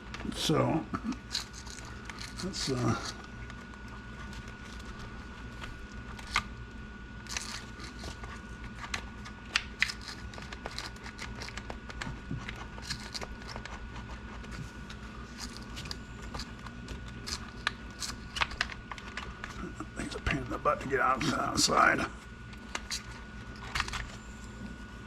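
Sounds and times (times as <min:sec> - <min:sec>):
faint high-pitched hum: 0:00.0 - 0:25.0.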